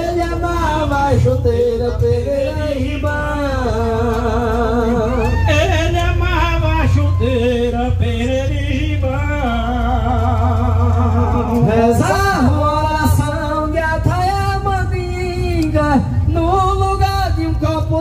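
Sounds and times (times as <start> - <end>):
man singing into microphone: 0.0 - 18.0
steady low hum: 0.0 - 18.0.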